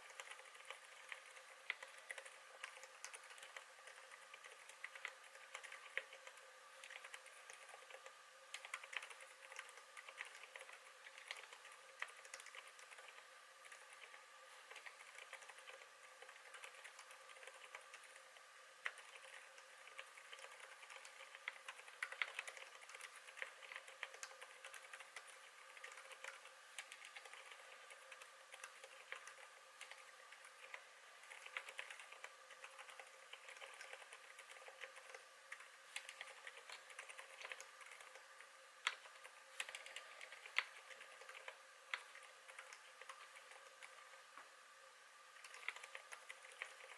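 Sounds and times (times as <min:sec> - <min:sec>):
soft muted keyboard typing: 0:00.0 - 0:44.5, 0:45.4 - 0:46.9
faint steady hum: 0:00.0 - 0:46.9.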